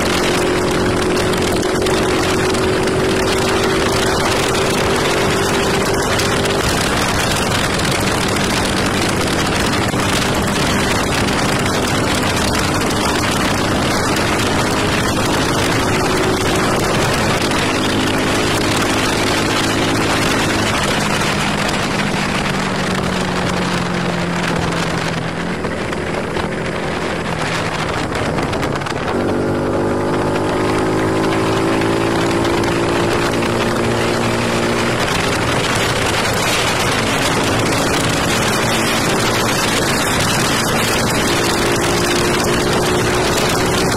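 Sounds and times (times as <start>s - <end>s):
motorcycle engine running: 0.0s - 43.9s
wind rushing on microphone: 0.0s - 43.9s.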